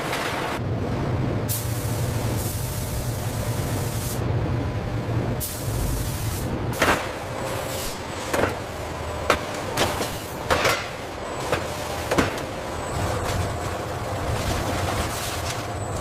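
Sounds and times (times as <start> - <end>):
factory machinery humming: 0.0 - 16.0.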